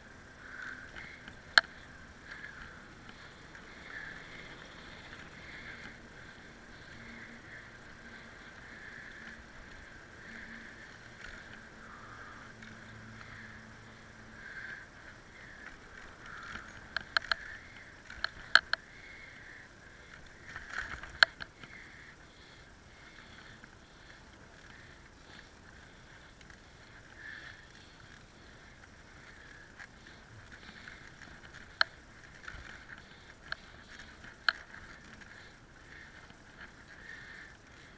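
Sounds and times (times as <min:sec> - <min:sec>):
muffled riding noise: 0:00.0 - 0:37.9.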